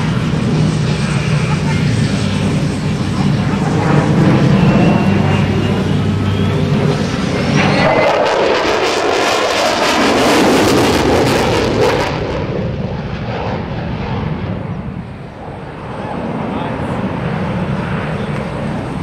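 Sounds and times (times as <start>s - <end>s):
jet engine crackling roar: 0.0s - 19.0s.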